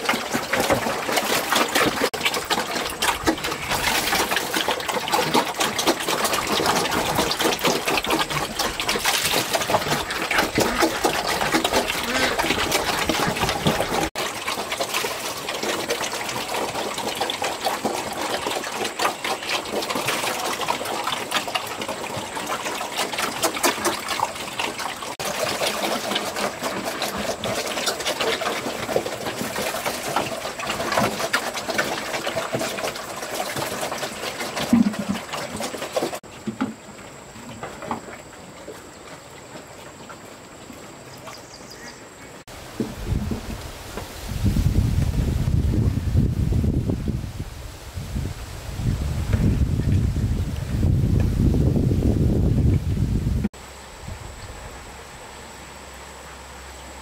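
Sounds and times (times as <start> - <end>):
pigs slurping and chomping feed: 0.0 - 53.6.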